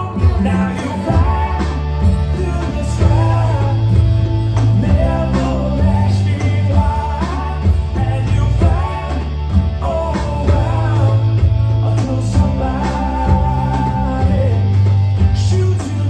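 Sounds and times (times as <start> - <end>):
rock song: 0.0 - 16.0.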